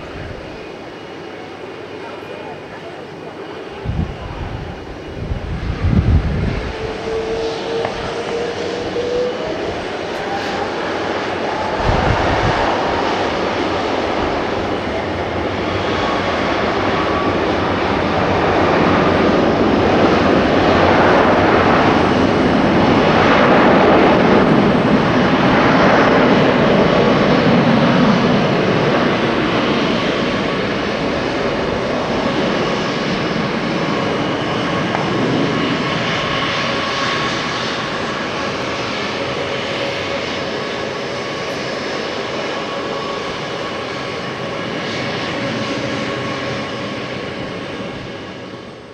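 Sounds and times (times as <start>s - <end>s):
jet engines roaring at takeoff: 0.0s - 48.9s.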